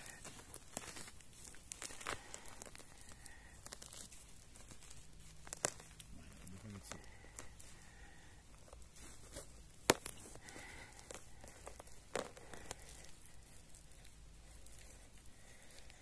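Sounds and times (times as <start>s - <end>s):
quiet rustling and crackling: 0.0s - 16.0s.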